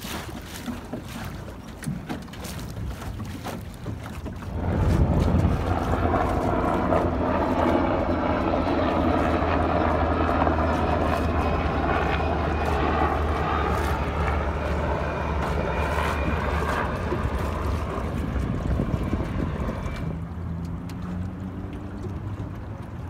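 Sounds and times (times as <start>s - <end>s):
helicopter flying overhead: 3.8s - 23.0s.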